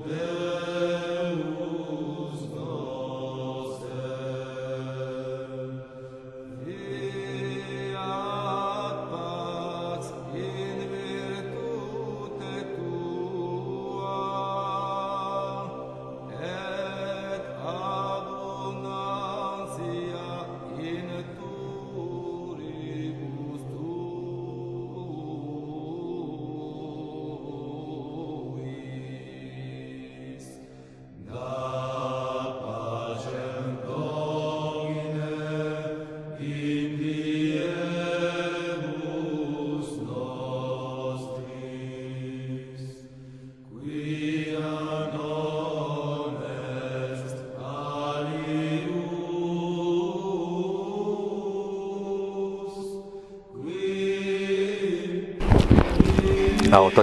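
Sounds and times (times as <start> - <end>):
chant-like vocal music: 0.0 - 57.0.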